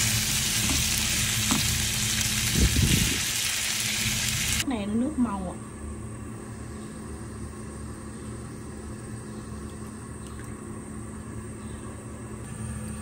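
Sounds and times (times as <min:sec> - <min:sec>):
low rumble with faint hum: 0:00.0 - 0:13.0.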